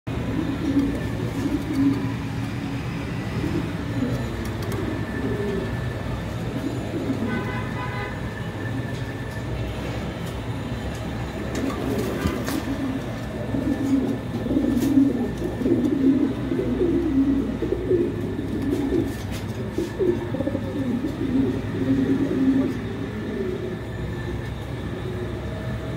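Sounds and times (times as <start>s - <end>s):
pigeons cooing: 0.1s - 7.7s, 11.3s - 25.9s
low background hum: 0.1s - 25.9s.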